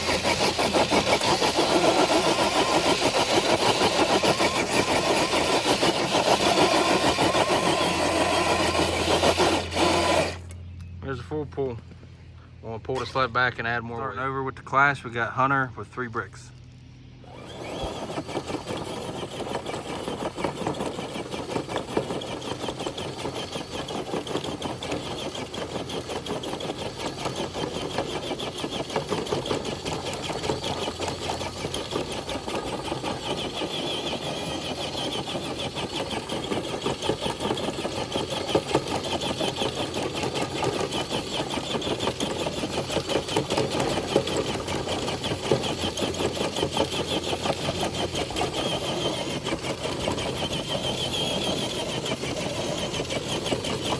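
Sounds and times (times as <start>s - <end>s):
electric motor and gears whirring: 0.0s - 12.0s, 12.8s - 15.6s, 16.2s - 53.9s.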